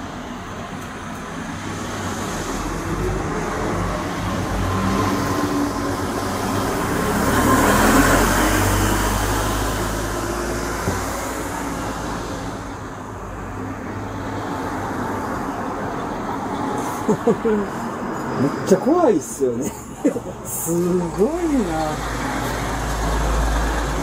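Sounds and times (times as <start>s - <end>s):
low traffic rumble: 0.0s - 24.0s
vehicle passing: 1.4s - 24.0s.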